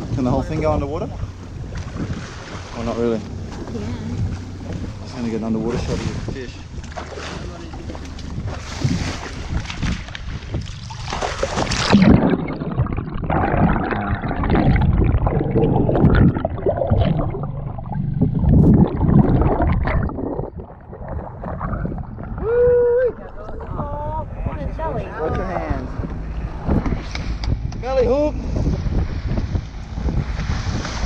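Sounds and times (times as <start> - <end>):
water gurgling and sloshing: 0.0 - 31.0.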